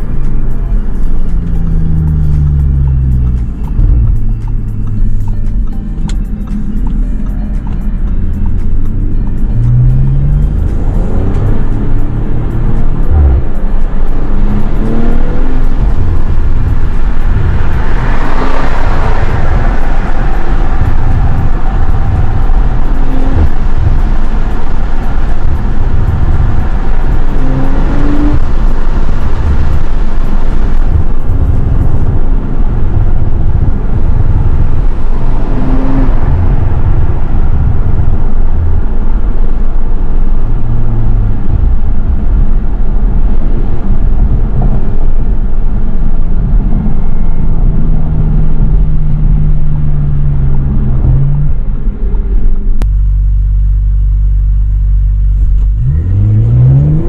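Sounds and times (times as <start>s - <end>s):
car engine drone in cabin: 0.0s - 57.0s.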